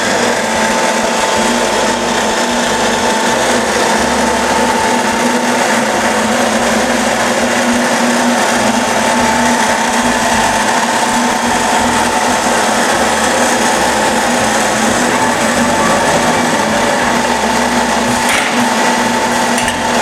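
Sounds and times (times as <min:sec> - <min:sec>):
machining center whirring: 0:00.0 - 0:20.0.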